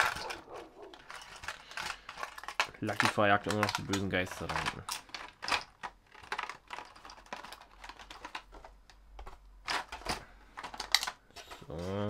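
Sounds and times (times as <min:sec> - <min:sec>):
plastic lures clicking and tapping: 0:00.0 - 0:11.2.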